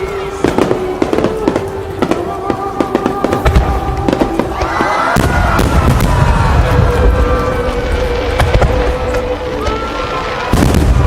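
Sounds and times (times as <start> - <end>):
fireworks booming: 0.0 - 11.0
fireworks cracking and popping: 0.0 - 11.0
music with held tones: 0.0 - 11.0.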